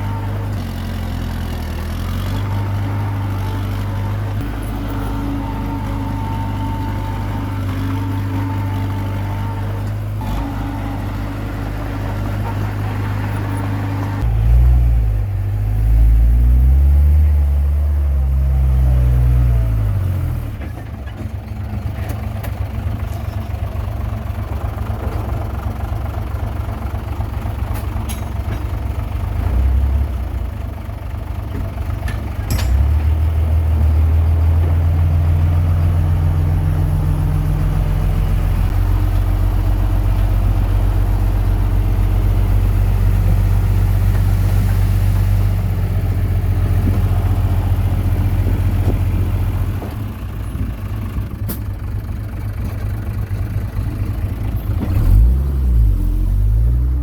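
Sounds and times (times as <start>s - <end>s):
bulldozer diesel engine revving: 0.0s - 20.7s, 29.1s - 31.8s, 32.7s - 57.0s.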